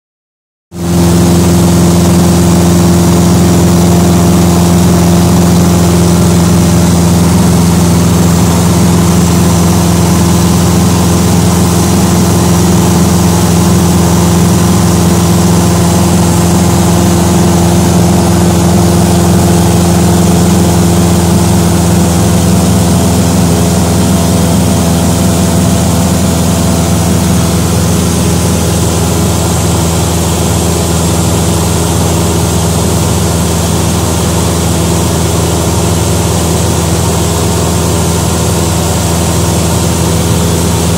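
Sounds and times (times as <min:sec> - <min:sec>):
propeller plane engine droning: 0:00.7 - 0:40.9.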